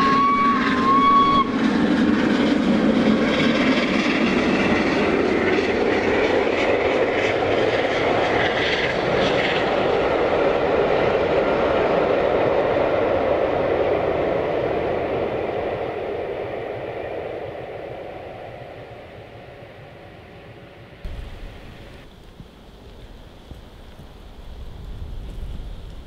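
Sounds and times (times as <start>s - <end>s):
steam train rushing rumble: 0.0s - 22.1s.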